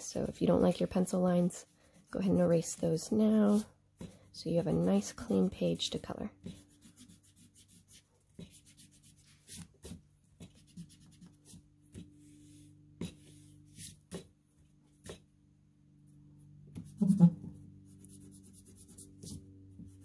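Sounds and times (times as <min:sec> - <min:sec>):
eraser rubbing on paper: 0:00.1 - 0:14.2, 0:16.8 - 0:20.0.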